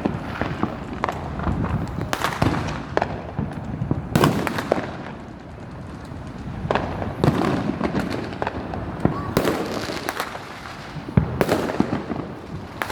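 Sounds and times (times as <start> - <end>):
fireworks bangs and crackling pops: 0.0 - 12.9.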